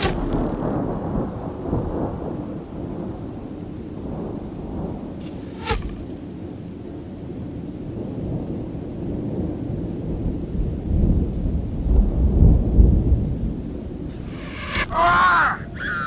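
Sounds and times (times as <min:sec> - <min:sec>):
low rumble of thunder: 0:00.0 - 0:14.3.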